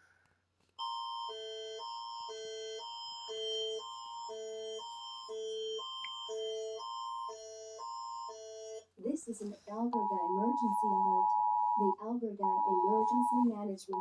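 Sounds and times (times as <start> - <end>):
electronic alert tones alternating: 1.2 - 8.8, 9.9 - 14.0.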